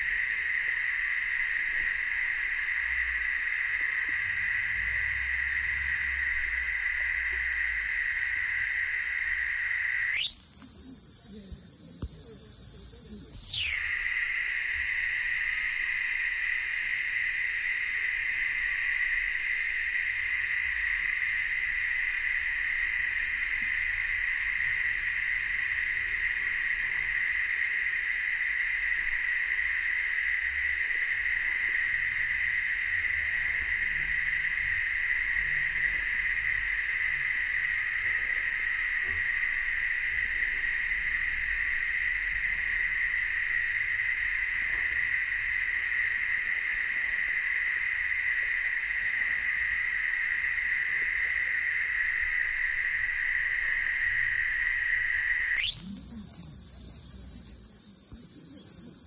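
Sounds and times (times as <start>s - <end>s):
cicadas droning: 0.0s - 59.0s.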